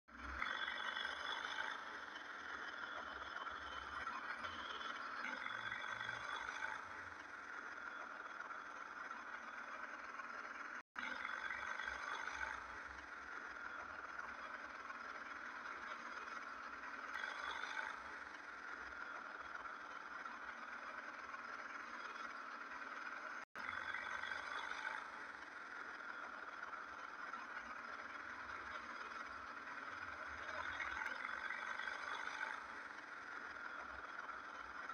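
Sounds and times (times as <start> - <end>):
motorcycle engine: 0.1 - 34.9
road and wind noise: 0.1 - 34.9.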